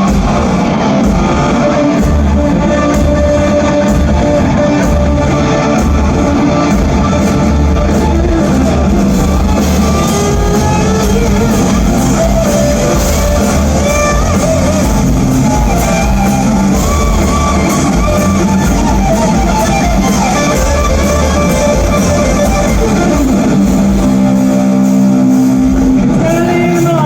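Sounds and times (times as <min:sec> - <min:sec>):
bass guitar: 0:00.0 - 0:27.0
distorted electric guitar: 0:00.0 - 0:27.0
live rock band playing: 0:00.0 - 0:27.0.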